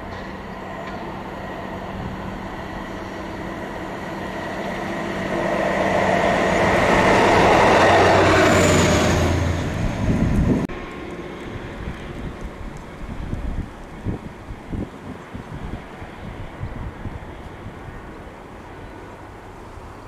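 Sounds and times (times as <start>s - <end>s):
diesel engine passing: 0.0s - 20.0s
wheels running on rails: 0.0s - 20.0s.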